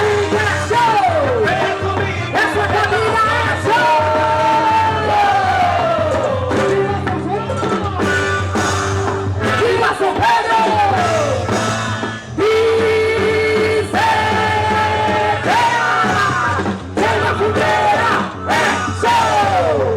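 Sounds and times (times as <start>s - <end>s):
band music: 0.0s - 19.9s
steady drumbeat: 0.0s - 19.9s.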